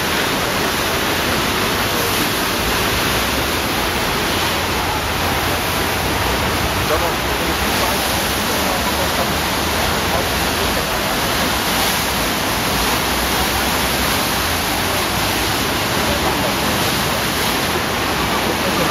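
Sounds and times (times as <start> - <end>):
rushing white water: 0.0 - 18.9.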